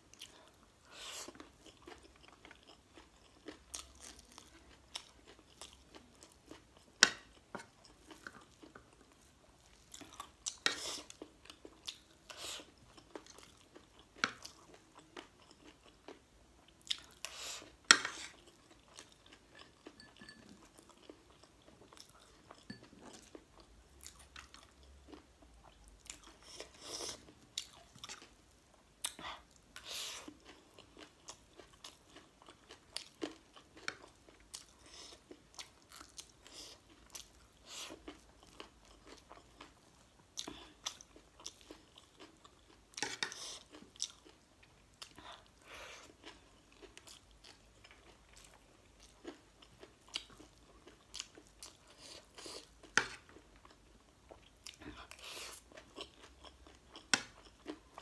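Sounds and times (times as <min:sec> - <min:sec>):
close-up chewing and crunching: 0:00.0 - 0:58.0.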